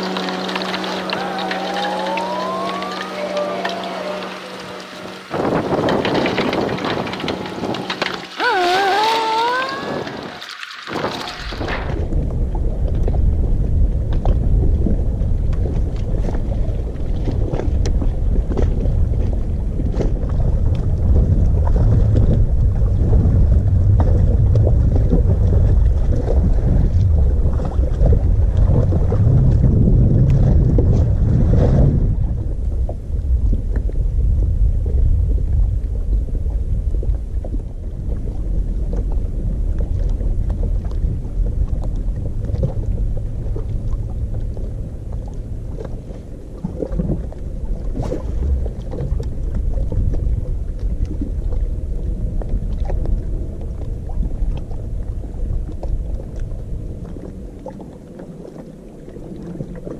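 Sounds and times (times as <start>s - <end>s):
water lapping against hull: 0.0s - 59.9s
wind rumbling on microphone: 0.0s - 59.9s.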